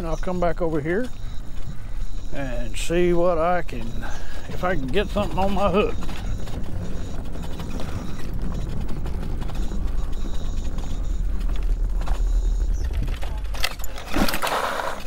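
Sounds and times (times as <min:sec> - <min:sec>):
wheels rattling on rough surface: 0:00.1 - 0:15.0.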